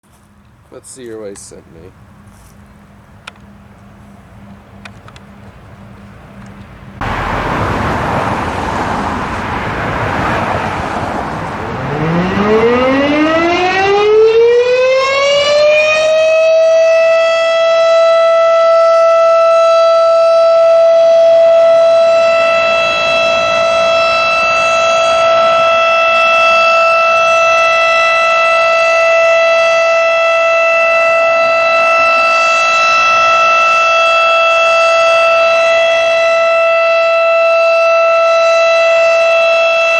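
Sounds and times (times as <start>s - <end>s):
mechanical siren rushing noise: 7.0s - 39.9s
mechanical siren tone rising: 7.0s - 39.9s.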